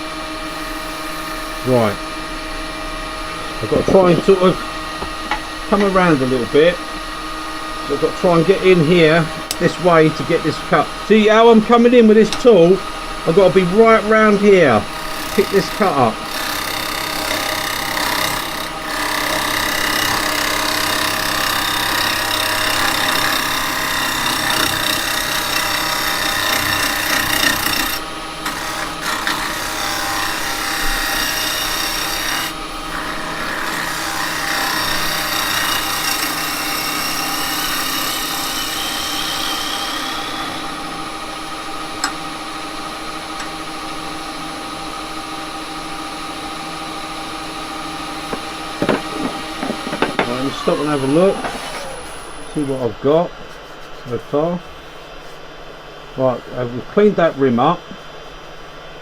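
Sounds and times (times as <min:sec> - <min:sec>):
cutter scraping spinning wood: 0:00.0 - 0:44.1, 0:47.8 - 0:52.8
lathe motor hum: 0:00.0 - 0:52.8.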